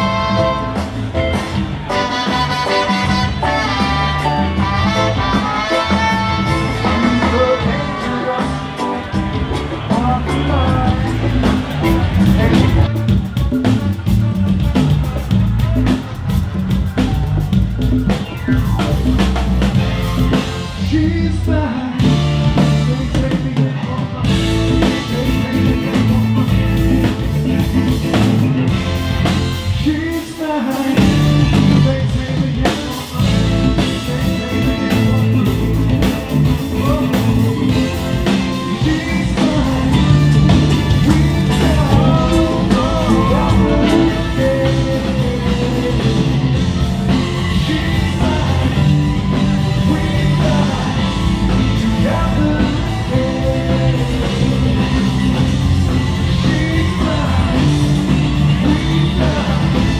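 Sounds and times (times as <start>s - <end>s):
rock band music: 0.0s - 59.9s
person singing: 1.9s - 13.8s, 19.0s - 28.7s, 29.7s - 59.9s.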